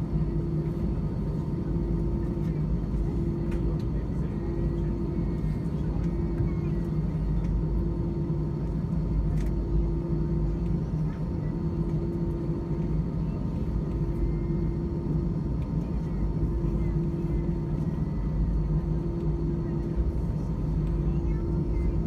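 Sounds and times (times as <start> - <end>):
jet engines humming in cabin: 0.0 - 22.0.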